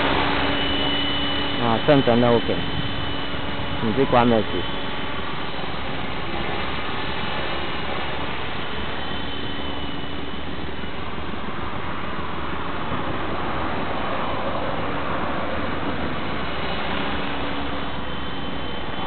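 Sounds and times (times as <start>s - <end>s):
faint high whine: 0.0s - 19.0s
helicopter rotor and motor hum: 0.0s - 19.0s.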